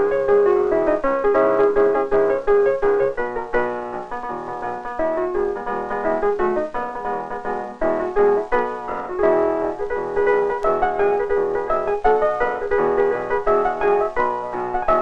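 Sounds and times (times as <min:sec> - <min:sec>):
lively solo piano tune: 0:00.0 - 0:15.0.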